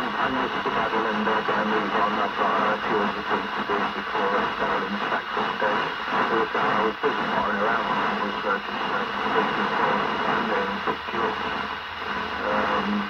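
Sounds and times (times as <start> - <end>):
muffled voice over radio: 0.0 - 13.0
radio hiss: 0.0 - 13.0.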